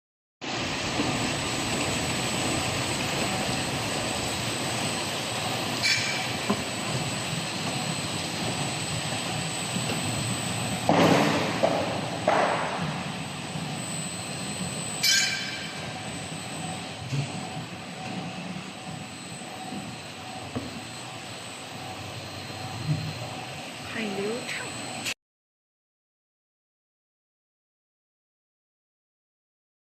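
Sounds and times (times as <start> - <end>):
washing machine running: 0.4 - 25.2.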